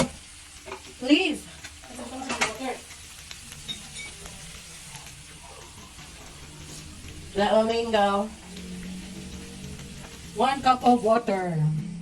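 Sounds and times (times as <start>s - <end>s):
food sizzling in frying pan: 0.0s - 11.8s.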